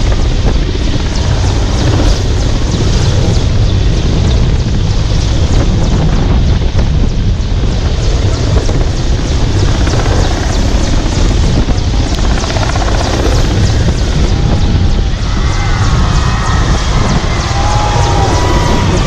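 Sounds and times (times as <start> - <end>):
helicopter hovering overhead: 0.0 - 19.0.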